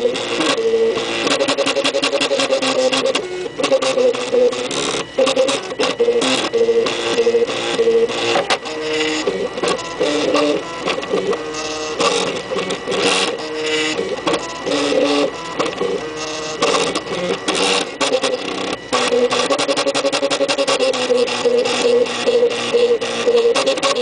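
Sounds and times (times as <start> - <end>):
stepper motors whining: 0.0 - 24.0.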